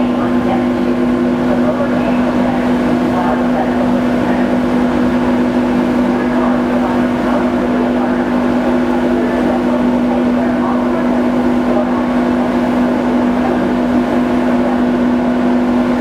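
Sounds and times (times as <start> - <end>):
ferry engines droning: 0.0 - 16.0.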